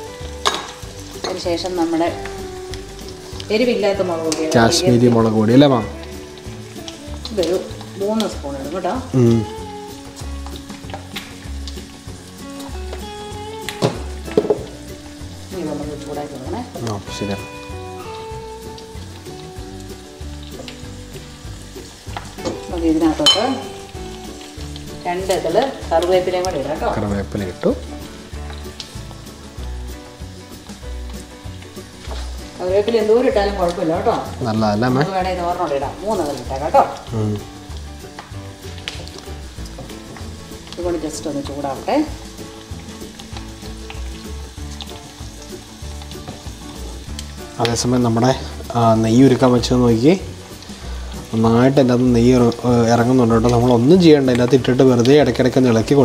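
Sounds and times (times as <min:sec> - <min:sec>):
spices sizzling in oil: 0:00.0 - 0:56.0.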